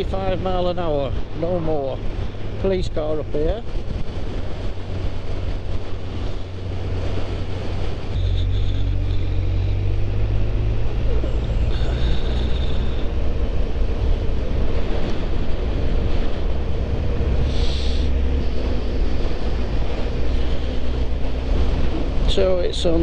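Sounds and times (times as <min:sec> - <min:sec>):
wind buffeting microphone: 0:00.0 - 0:23.0
motorcycle engine running: 0:03.7 - 0:23.0.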